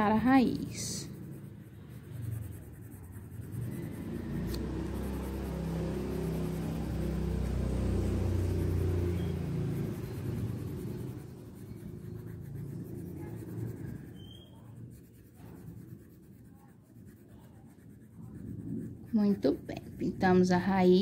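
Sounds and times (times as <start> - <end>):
colouring scratching on paper: 0.0 - 21.0.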